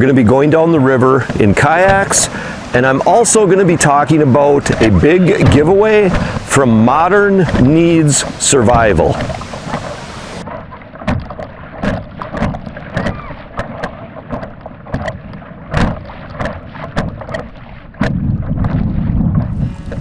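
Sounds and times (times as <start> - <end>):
paddle knocks and splashes: 0.0 - 20.0
wind rumble on microphone: 1.2 - 20.0.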